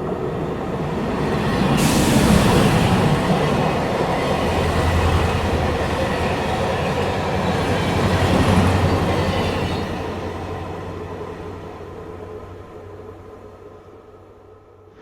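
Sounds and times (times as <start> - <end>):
train wheels rumbling on rails: 0.0 - 12.7.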